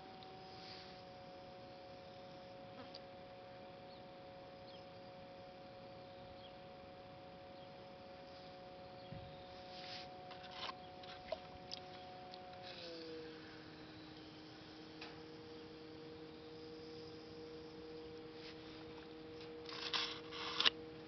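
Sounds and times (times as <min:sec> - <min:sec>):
potter's wheel motor whining: 0:03.8 - 0:21.0.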